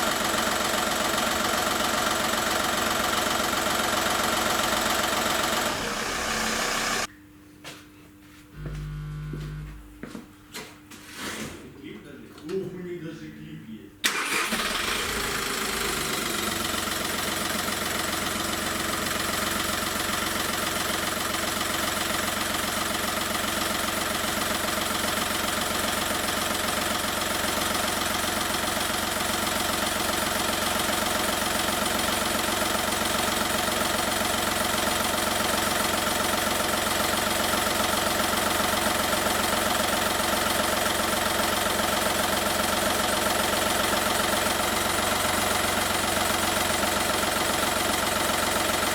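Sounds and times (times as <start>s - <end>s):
diesel engine idling: 0.0s - 7.1s, 14.1s - 48.9s.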